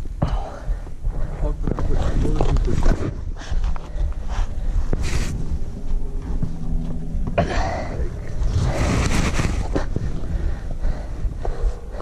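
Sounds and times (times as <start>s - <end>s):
microphone rumble and handling noise: 0.0s - 12.0s.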